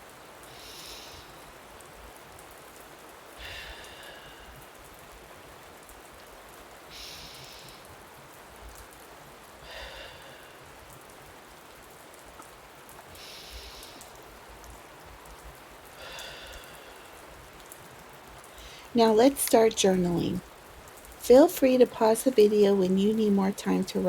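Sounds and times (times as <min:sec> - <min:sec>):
steady rain patter: 0:00.0 - 0:24.0.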